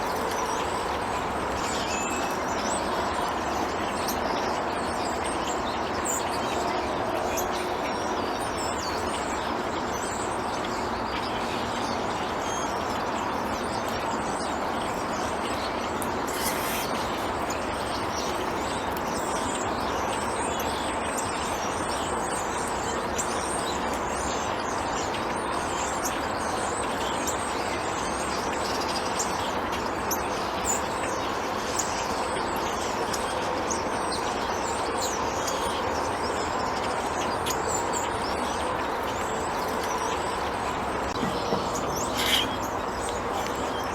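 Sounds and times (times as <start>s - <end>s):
small birds chirping: 0.0s - 43.9s
steady background noise: 0.0s - 43.9s.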